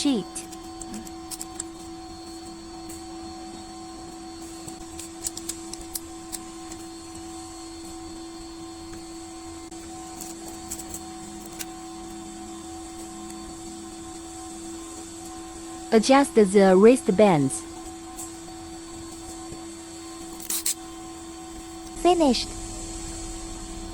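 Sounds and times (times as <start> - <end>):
steady machine hum: 0.0 - 23.9.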